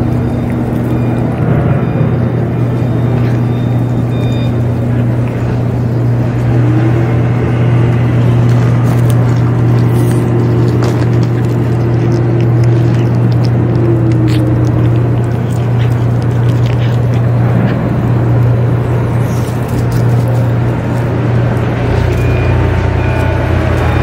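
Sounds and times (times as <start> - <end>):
cat chewing food: 0.0 - 24.0
steady low hum: 0.0 - 24.0.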